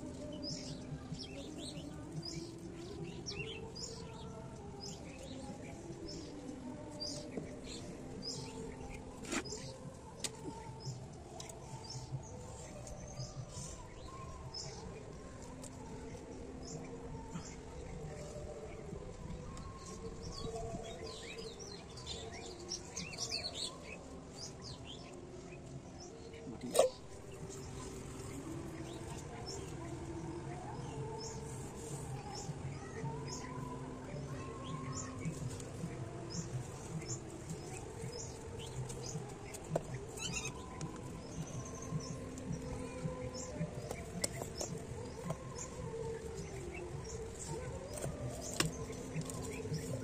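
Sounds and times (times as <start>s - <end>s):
faint background music: 0.0s - 50.0s
small birds chirping: 0.0s - 50.0s.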